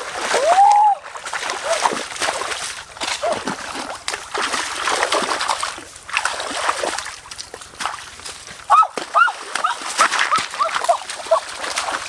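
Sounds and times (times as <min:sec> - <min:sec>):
splashes from wading: 0:00.0 - 0:12.0
stream trickling over rocks: 0:00.0 - 0:12.0.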